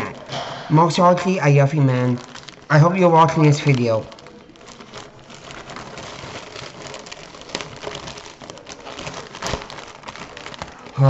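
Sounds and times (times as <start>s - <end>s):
packaging rustling and crinkling: 1.2s - 11.0s.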